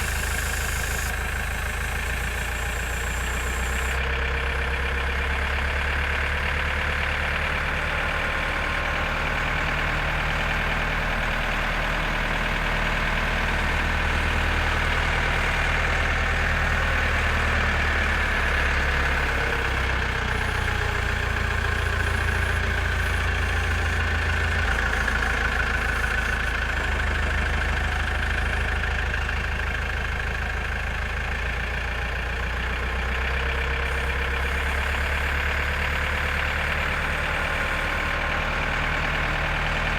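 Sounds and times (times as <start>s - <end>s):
diesel engine running with whine: 0.0s - 39.9s.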